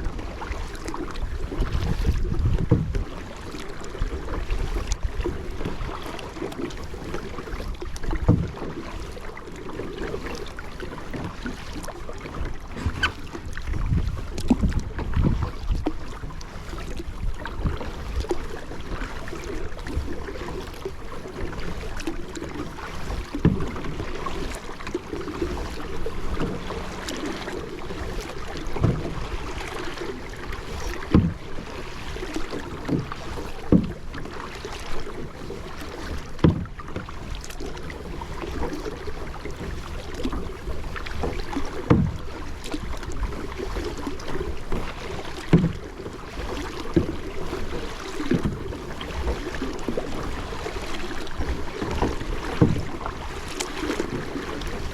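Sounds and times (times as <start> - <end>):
paddle pulling through water: 0.0 - 54.9
water washing along hull: 0.0 - 54.9.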